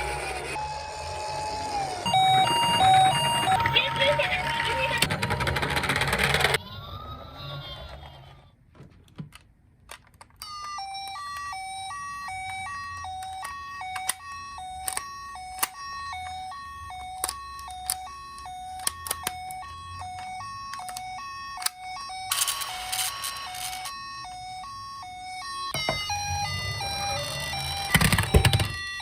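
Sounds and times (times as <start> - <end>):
toy two-tone siren: 0.0 - 5.2, 10.4 - 29.0.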